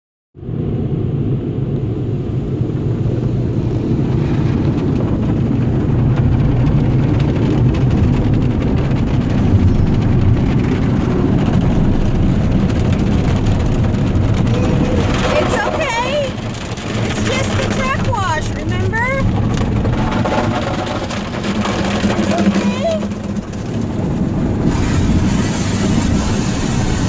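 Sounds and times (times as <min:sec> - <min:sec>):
truck wash rumbling: 0:00.4 - 0:27.0.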